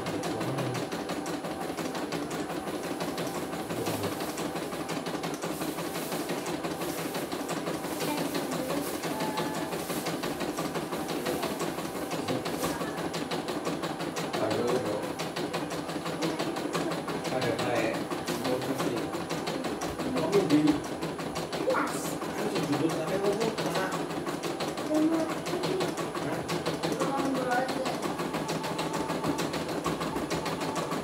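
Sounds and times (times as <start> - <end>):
embroidery machine stitching: 0.0 - 31.0.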